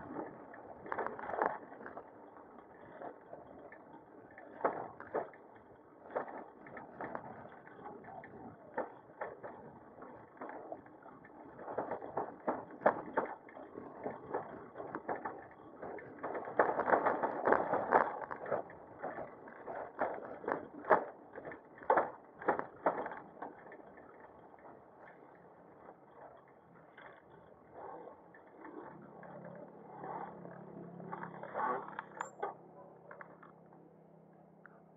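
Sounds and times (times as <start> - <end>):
bicycle rattling and knocking: 0.0 - 33.6.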